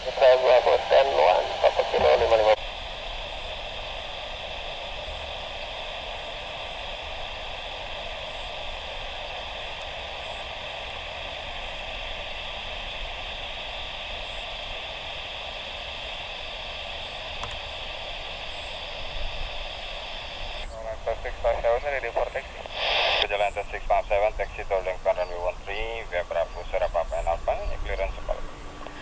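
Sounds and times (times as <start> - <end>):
radio static hiss: 0.0 - 29.0.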